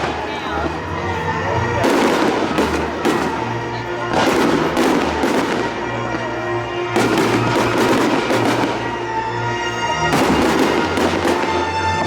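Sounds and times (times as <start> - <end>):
fireworks booming: 0.0 - 12.0
music playing: 0.0 - 12.0.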